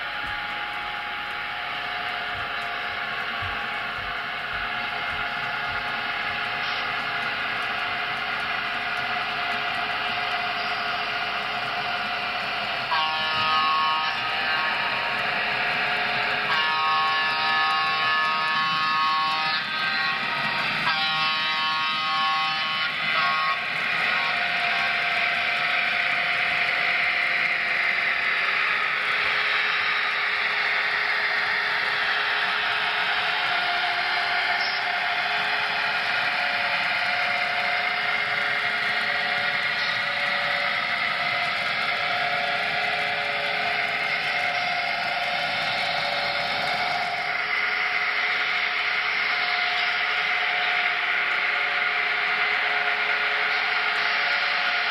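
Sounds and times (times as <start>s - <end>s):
steady running noise: 0.0s - 54.9s
model train air horn: 0.1s - 54.9s.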